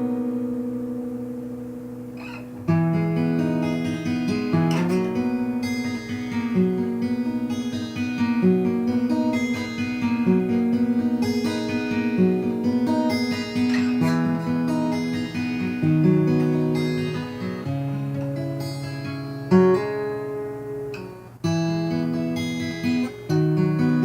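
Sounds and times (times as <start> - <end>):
acoustic guitar picked and strummed: 0.0 - 24.0.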